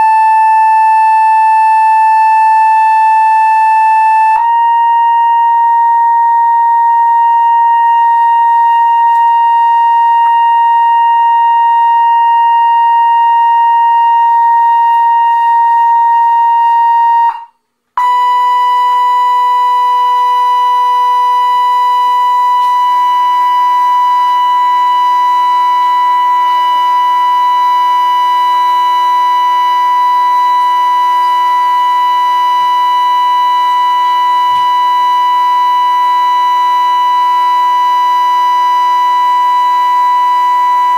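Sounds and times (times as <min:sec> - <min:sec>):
high-pitched sine tone: 0:00.0 - 0:40.9.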